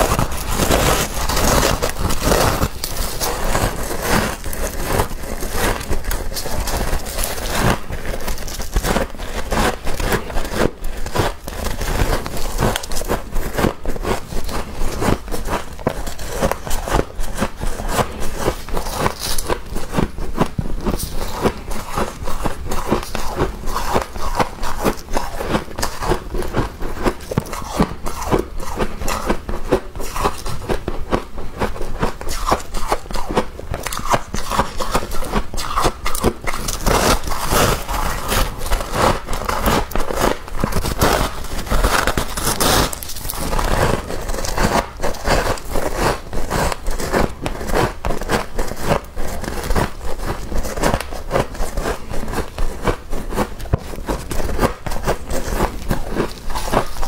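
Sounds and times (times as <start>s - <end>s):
frost crunching: 0.0s - 31.2s, 32.0s - 57.0s.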